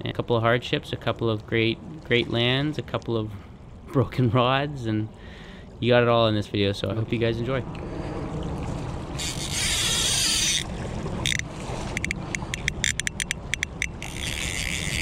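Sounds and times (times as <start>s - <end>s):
river current flowing: 0.0s - 15.0s.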